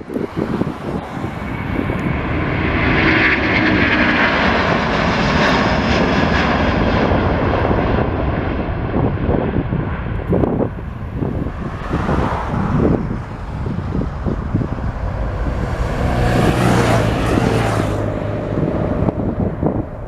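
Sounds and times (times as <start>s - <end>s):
jet engines passing by: 0.0s - 20.0s.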